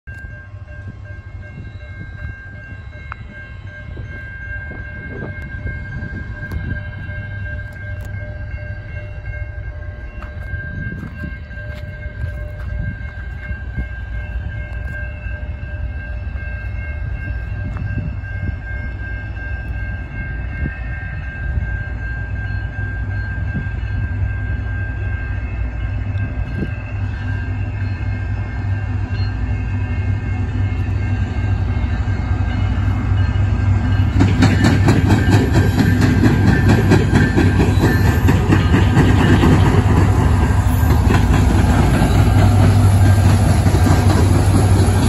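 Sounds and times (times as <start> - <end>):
freight train rumble: 0.0 - 45.0
railroad crossing bell ringing: 0.0 - 45.0.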